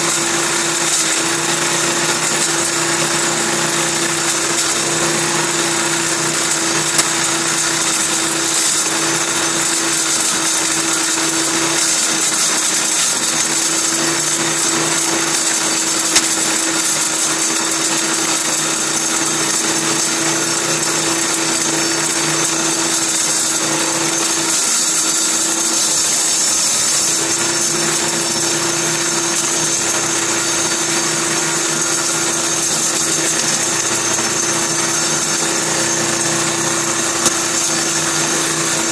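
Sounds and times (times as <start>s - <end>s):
saw motor humming: 0.0s - 38.9s
table saw blade cutting wood: 0.0s - 38.9s.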